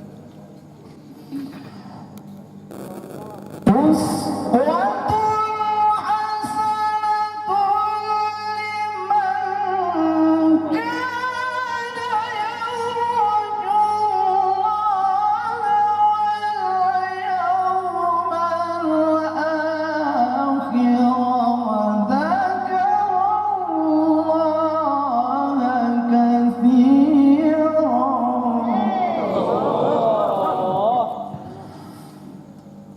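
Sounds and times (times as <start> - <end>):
man reciting melodically: 3.7 - 31.4.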